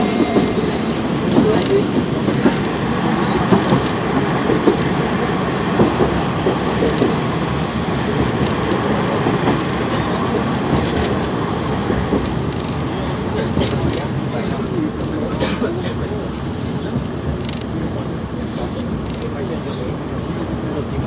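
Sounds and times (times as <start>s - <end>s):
railcar rumble: 0.0s - 21.0s.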